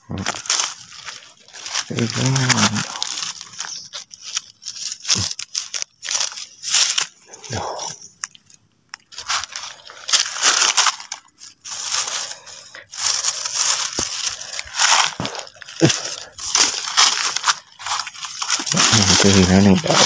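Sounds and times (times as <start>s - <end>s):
footsteps crunching dry leaves: 0.0s - 8.1s, 9.0s - 20.0s.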